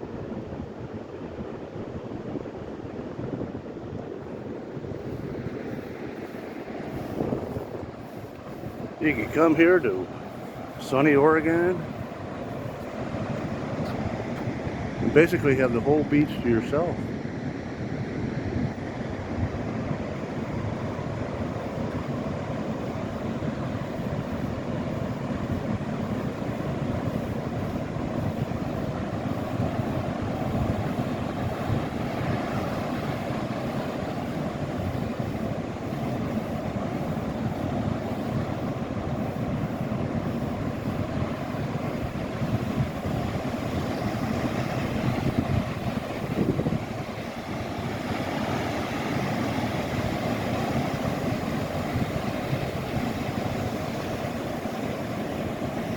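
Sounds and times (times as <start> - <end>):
ocean surf: 0.0 - 55.9
wind buffeting microphone: 0.0 - 55.9.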